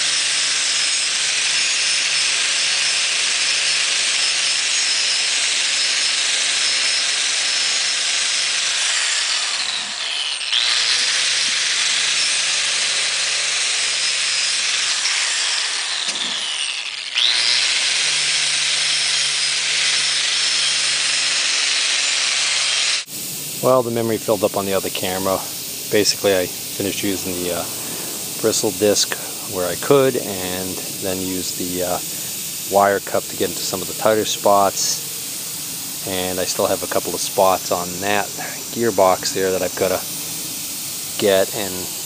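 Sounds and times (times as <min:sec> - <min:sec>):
angle grinder brush scrubbing metal: 0:00.0 - 0:42.0.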